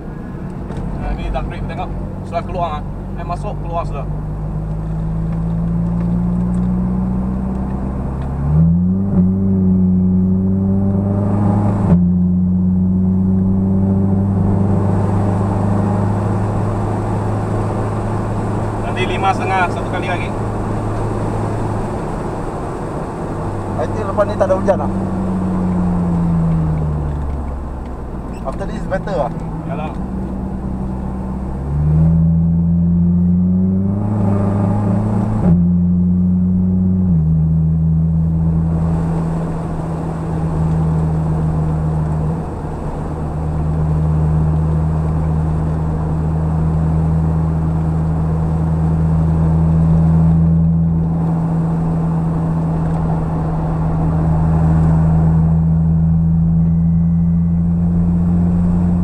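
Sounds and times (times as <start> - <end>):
car engine from inside cabin: 0.0 - 59.0
road noise: 0.0 - 59.0.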